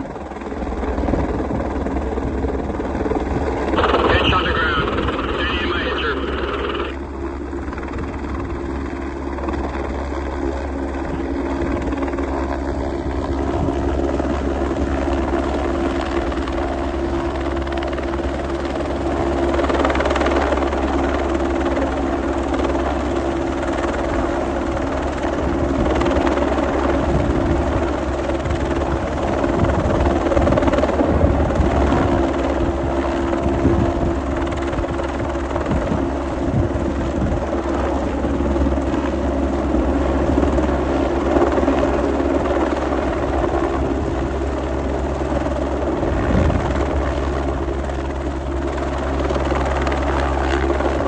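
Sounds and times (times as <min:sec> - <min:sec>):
helicopter rotor and engine: 0:00.0 - 0:51.0.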